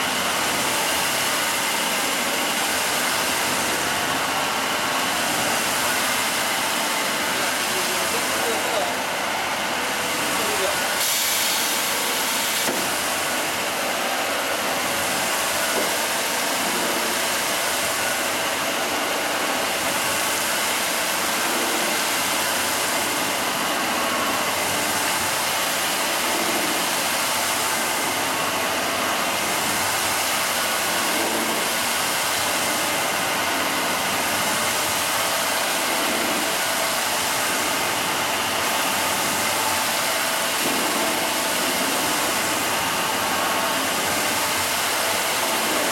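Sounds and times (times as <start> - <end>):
polishing machine grinding stone: 0.0 - 45.9.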